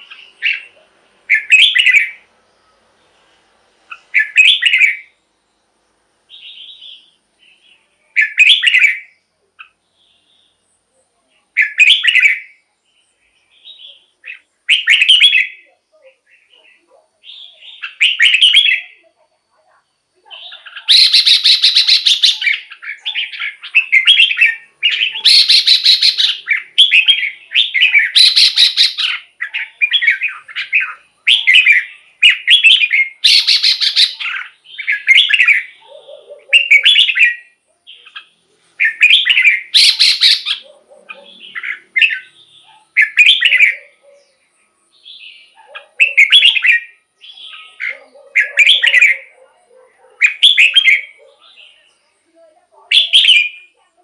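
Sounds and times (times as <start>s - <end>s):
bird singing warbled phrases: 0.0s - 2.9s, 3.8s - 54.0s.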